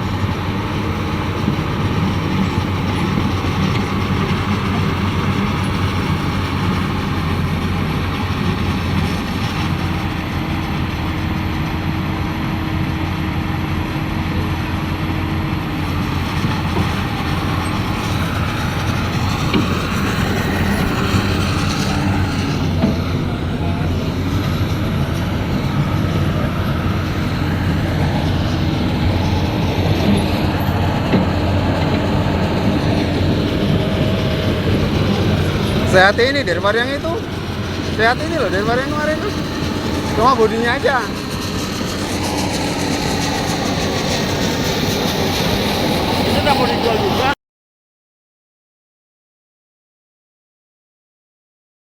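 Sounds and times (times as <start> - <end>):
excavator diesel engine running: 0.0 - 47.4.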